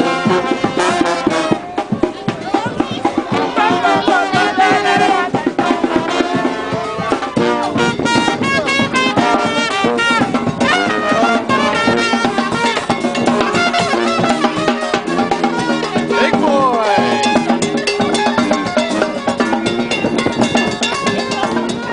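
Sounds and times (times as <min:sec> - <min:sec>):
brass band playing: 0:00.0 - 0:21.9.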